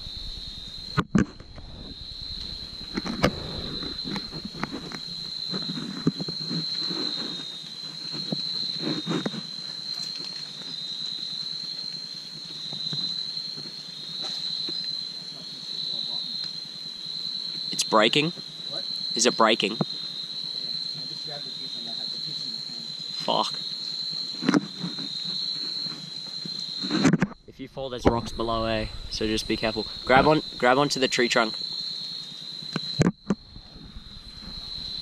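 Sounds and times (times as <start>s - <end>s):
night insects droning: 0.0s - 35.0s.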